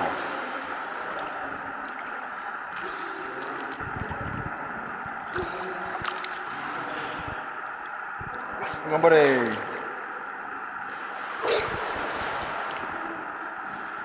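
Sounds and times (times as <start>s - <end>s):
light water slaps: 0.0s - 10.0s, 10.9s - 13.9s
pool water splashing: 0.0s - 14.0s.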